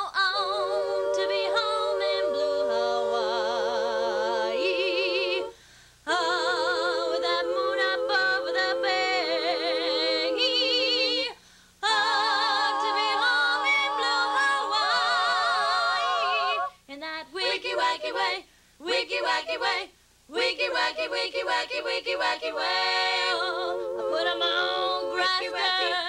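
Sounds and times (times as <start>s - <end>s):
women's vocal group singing in harmony: 0.0s - 26.0s.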